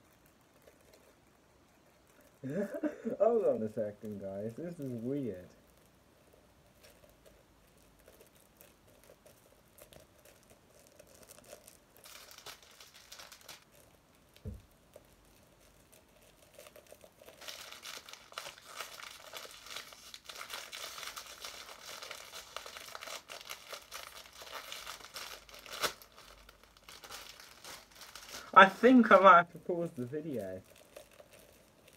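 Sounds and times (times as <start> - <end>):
packaging crinkling and tearing: 0.0 - 6.0, 6.7 - 31.9.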